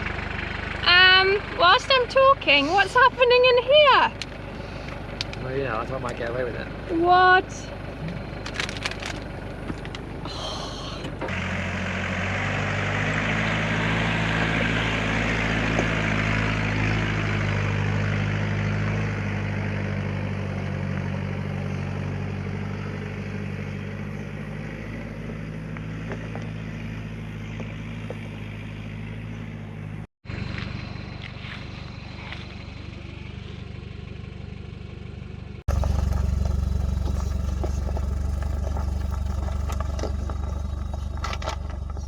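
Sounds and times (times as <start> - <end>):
off-road vehicle engine running: 0.0 - 42.0.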